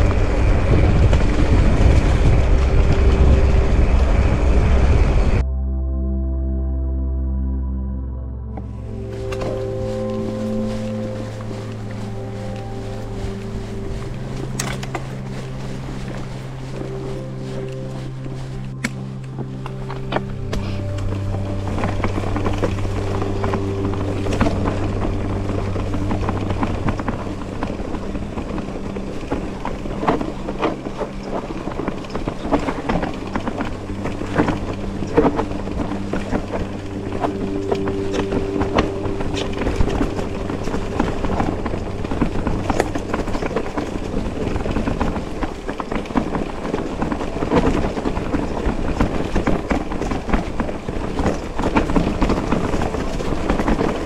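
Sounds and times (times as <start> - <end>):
wind on microphone: 0.0 - 5.4, 8.5 - 54.0
steady low hum: 0.0 - 54.0.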